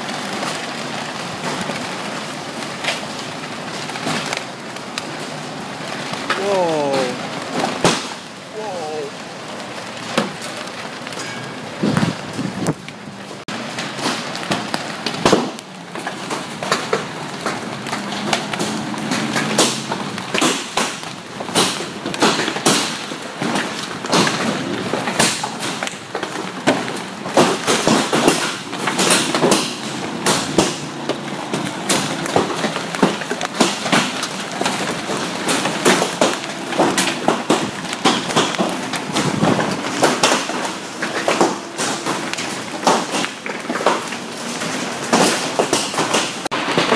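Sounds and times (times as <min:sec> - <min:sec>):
hailstones clattering on building: 0:00.0 - 0:46.9.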